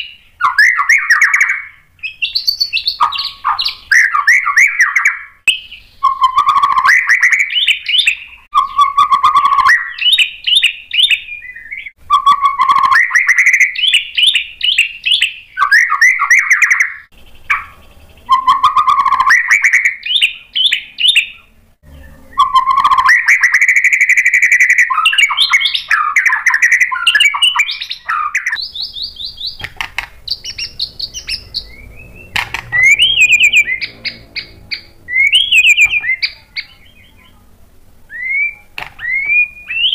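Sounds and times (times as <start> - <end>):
songbird chirping and whistling: 0.0 - 37.4, 38.0 - 39.9.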